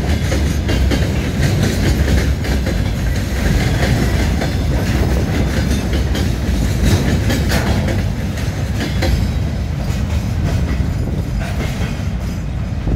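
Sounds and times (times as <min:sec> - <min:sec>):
freight train wheels rumbling: 0:00.0 - 0:12.9
wheels clacking over rail joints: 0:00.0 - 0:12.9.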